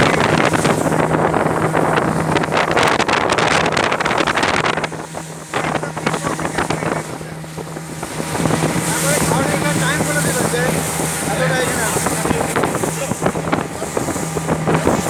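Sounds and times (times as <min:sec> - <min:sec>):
motorboat engine humming: 0:00.0 - 0:15.0
wind gusting on microphone: 0:00.0 - 0:15.0.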